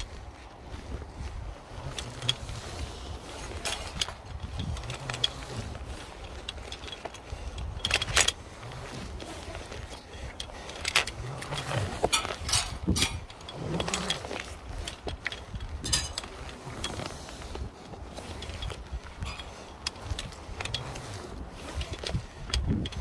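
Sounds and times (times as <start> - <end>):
wind rumble on microphone: 0.0 - 23.0
metal hardware clinking on tower: 1.7 - 23.0.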